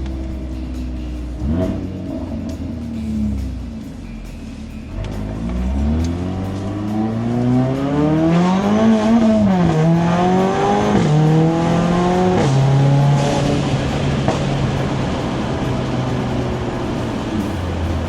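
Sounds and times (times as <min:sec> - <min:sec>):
car engine accelerating with upshifts: 0:00.0 - 0:18.0.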